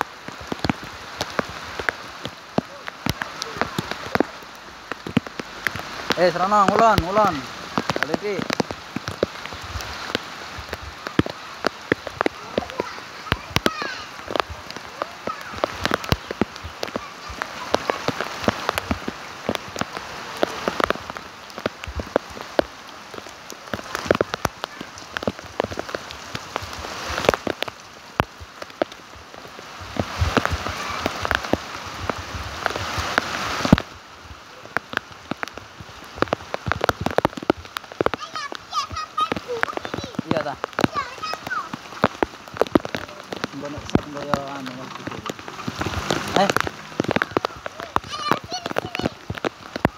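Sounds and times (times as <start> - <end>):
rain falling: 0.0 - 49.9
drops splattering: 0.4 - 29.0, 34.7 - 49.9.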